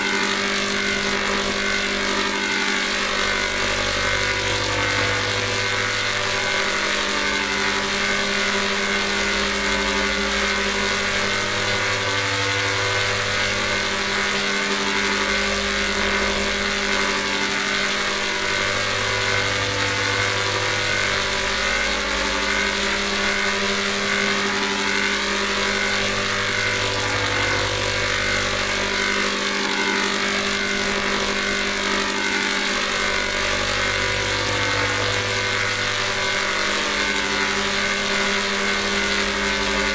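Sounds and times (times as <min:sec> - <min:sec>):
synthetic chord drone: 0:00.0 - 0:39.9.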